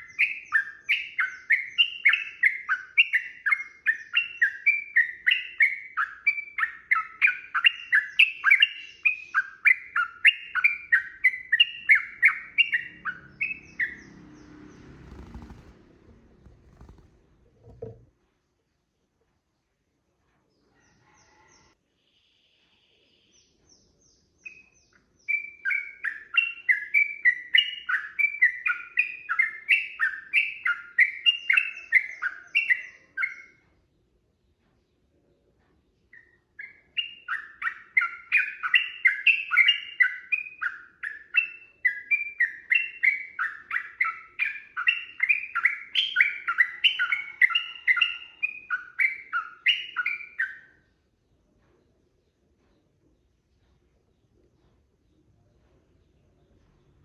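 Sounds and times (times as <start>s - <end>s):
bird singing rapid repeated notes: 0.0s - 18.0s, 23.2s - 35.1s, 36.0s - 57.0s.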